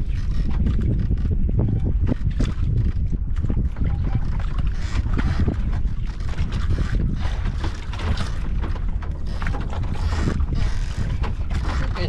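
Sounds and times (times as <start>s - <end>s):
water slapping against boat hull: 0.0s - 12.0s
wind buffeting microphone: 0.0s - 12.0s.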